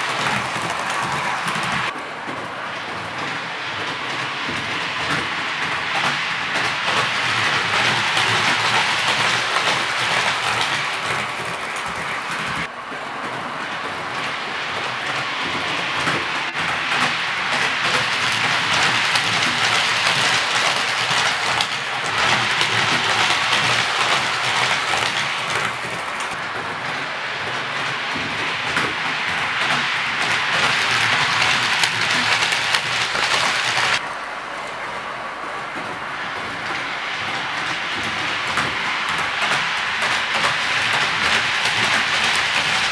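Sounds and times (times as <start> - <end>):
model train wheels rattling on rails: 0.0 - 42.9.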